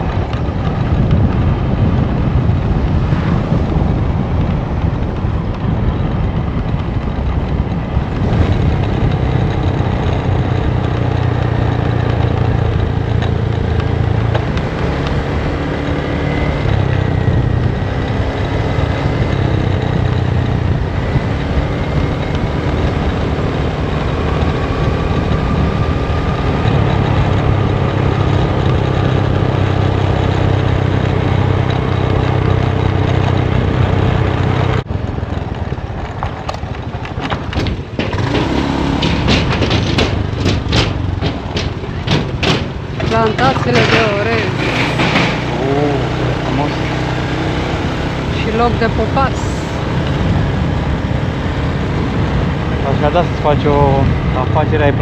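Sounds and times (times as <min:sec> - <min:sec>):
scooter engine humming: 0:00.0 - 0:55.0
wind and road noise: 0:00.0 - 0:55.0.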